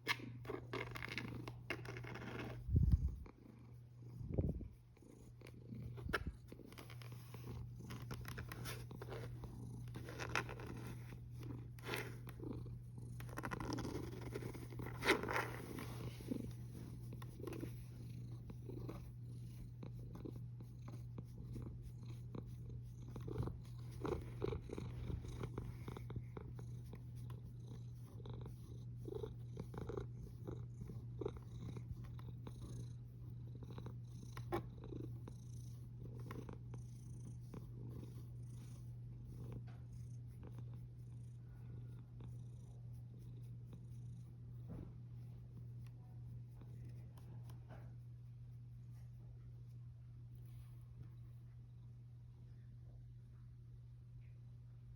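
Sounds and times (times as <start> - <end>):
cat purring: 0.1 - 49.6.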